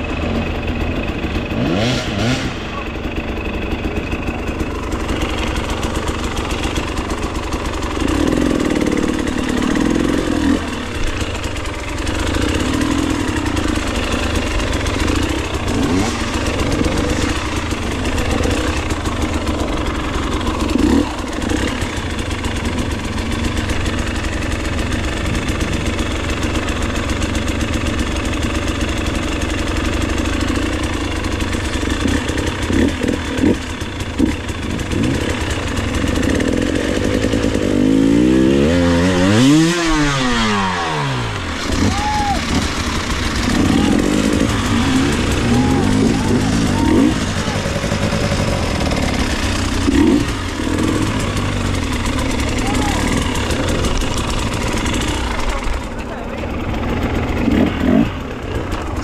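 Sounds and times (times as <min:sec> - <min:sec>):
dirt bike engine idling: 0:00.0 - 0:59.0.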